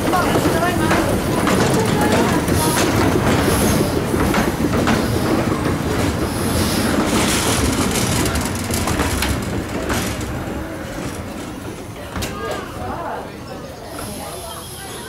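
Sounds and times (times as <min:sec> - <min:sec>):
train carriages rumbling: 0:00.0 - 0:15.0.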